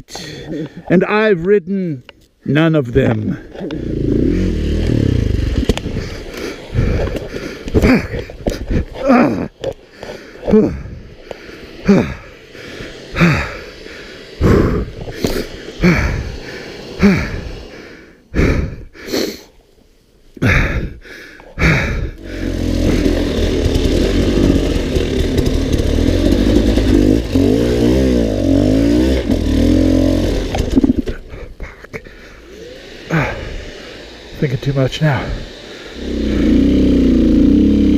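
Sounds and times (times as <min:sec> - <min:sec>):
dirt bike engine revving: 0:03.0 - 0:19.0, 0:21.6 - 0:37.9.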